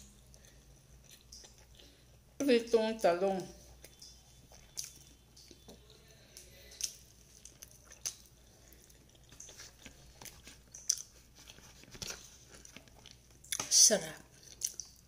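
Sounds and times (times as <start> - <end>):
chewing soft food: 0.0 - 2.4, 3.5 - 13.7, 14.3 - 15.0.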